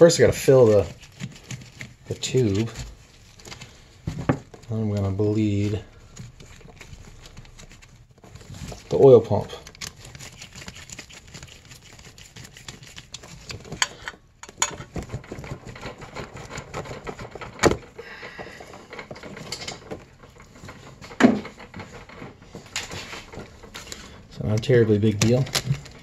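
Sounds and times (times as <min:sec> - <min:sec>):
handling clicks and rustling: 0:00.0 - 0:26.0.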